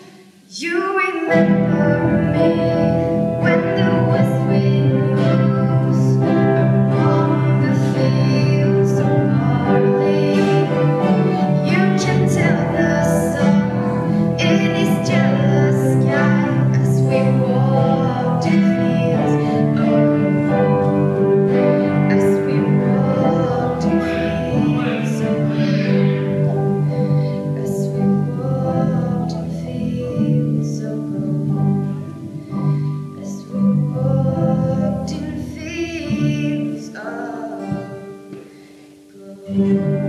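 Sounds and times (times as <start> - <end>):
woman singing: 0.0 - 38.5
acoustic guitar strumming: 0.0 - 40.0.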